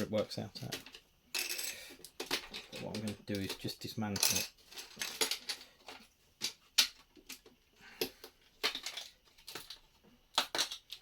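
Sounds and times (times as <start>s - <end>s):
plastic bricks clicking and clattering: 0.6s - 11.0s.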